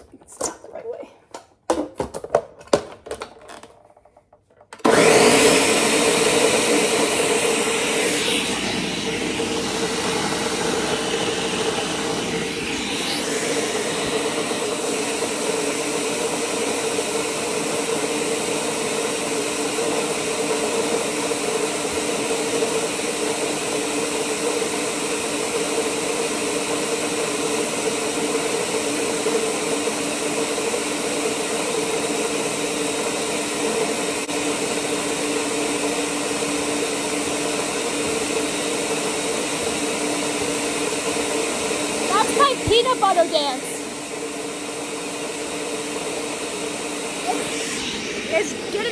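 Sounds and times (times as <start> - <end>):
blender motor grinding: 4.8 - 48.9.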